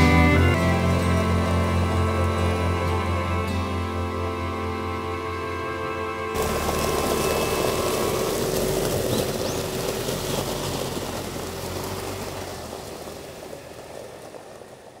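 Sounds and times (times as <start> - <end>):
tyres rolling over gravel: 0.0 - 5.2, 6.2 - 15.0
car engine running: 0.0 - 15.0.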